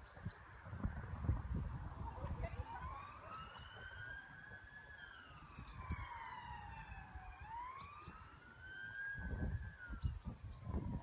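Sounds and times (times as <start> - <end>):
faint siren wailing: 1.8 - 11.0.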